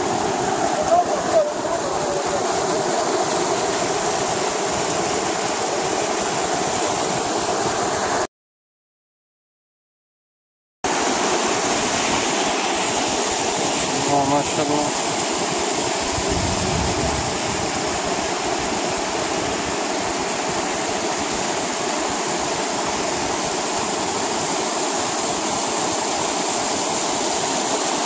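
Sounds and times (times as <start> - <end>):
water rushing over rocks: 0.0 - 8.2, 10.9 - 28.0.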